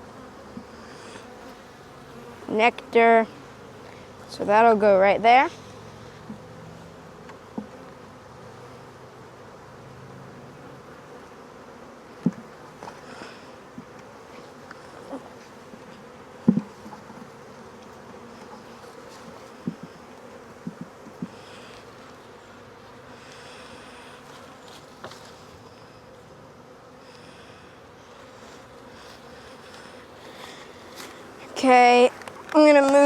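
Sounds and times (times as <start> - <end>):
honey bees buzzing: 0.0 - 33.0.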